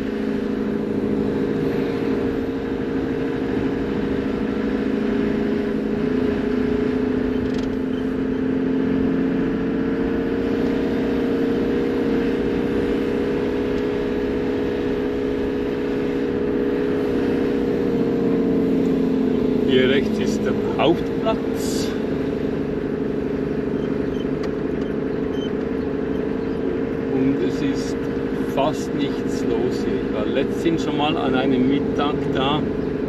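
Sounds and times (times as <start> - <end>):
diesel engine droning: 0.0 - 33.0.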